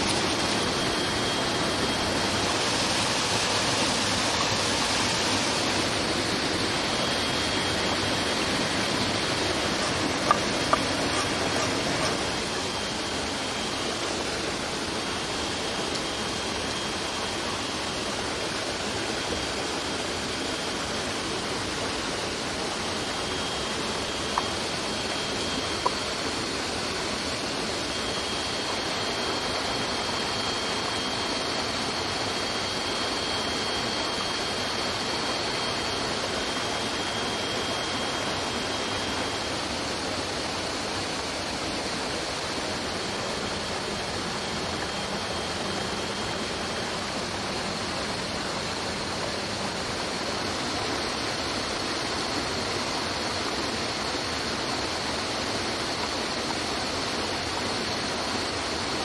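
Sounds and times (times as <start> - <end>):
stream water rushing: 0.0 - 59.0
thin high whine: 0.0 - 59.0.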